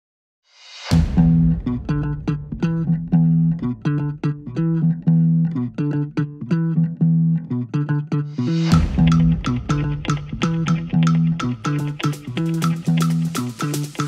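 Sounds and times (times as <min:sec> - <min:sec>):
plucked bass and guitar music: 0:01.0 - 0:14.0.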